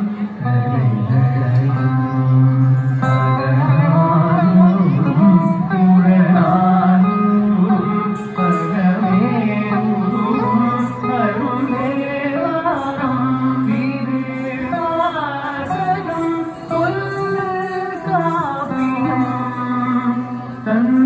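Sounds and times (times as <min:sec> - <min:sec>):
instrumental backing: 0:00.0 - 0:21.0
woman singing: 0:00.0 - 0:21.0.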